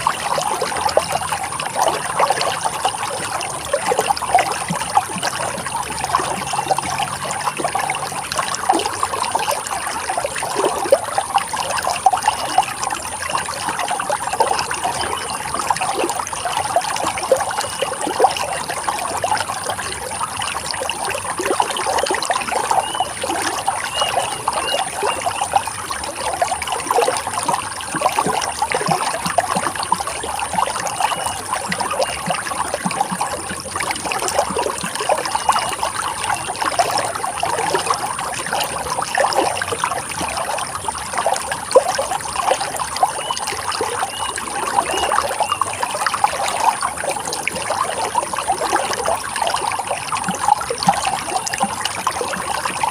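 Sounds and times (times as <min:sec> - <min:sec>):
stream water trickling and splashing: 0:00.0 - 0:52.9.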